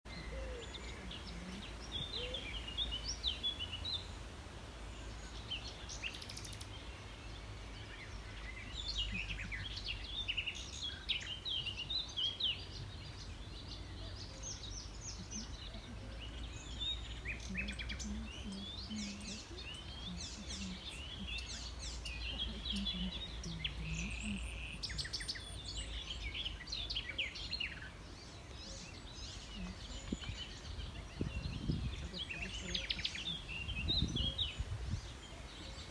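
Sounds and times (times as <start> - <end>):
songbirds singing and chirping: 0.0 - 35.9.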